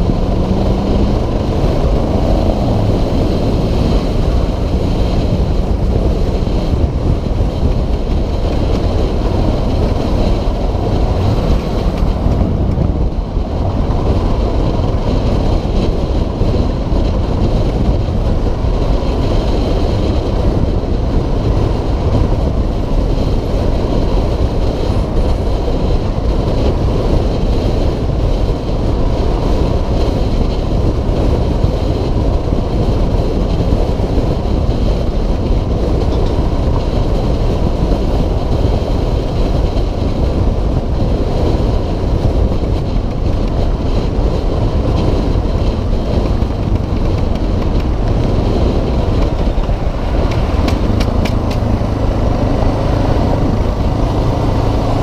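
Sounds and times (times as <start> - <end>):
motorcycle engine running: 0.0 - 55.0
road noise: 0.0 - 55.0
wind on microphone: 0.0 - 55.0.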